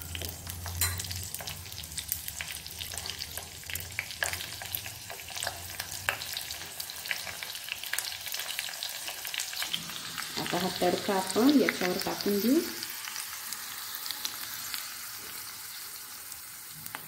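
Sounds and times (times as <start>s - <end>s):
sizzling and popping in hot oil: 0.0s - 17.0s.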